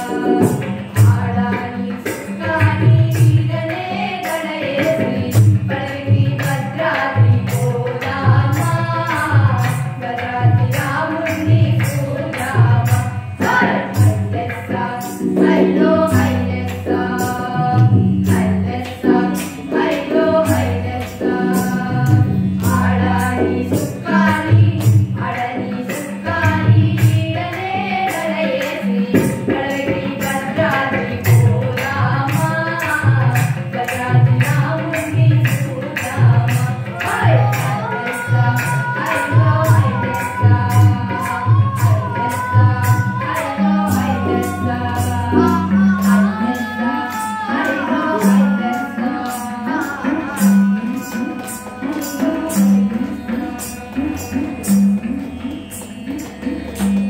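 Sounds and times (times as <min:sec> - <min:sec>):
group of people singing: 0:00.0 - 0:57.0
tabla strokes: 0:00.0 - 0:57.0.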